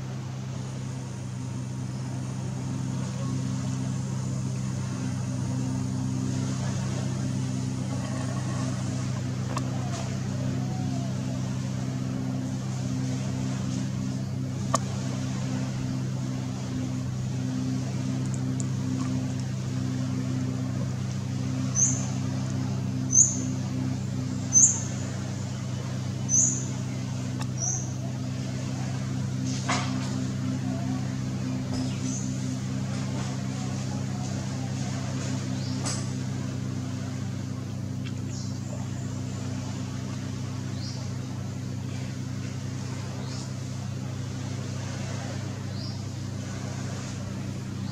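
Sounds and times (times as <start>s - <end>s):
low engine hum: 0.0s - 47.9s.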